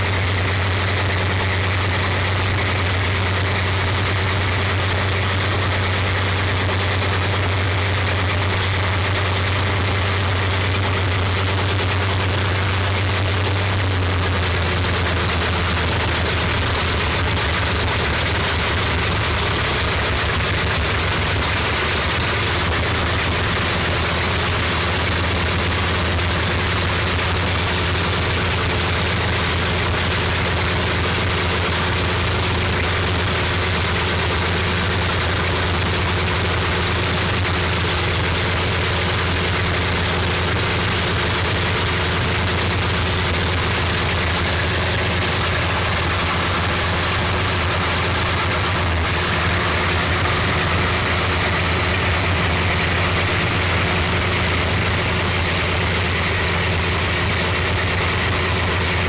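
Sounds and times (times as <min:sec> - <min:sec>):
aircraft engine running: 0:00.0 - 0:59.0
deep steady hum: 0:00.0 - 0:59.0.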